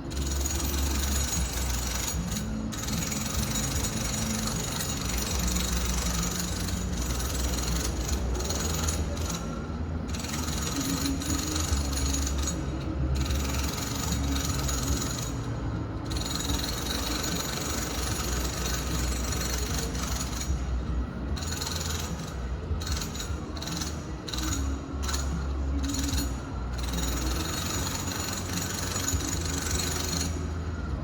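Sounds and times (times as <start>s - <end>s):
mechanical work noise: 0.0s - 31.0s.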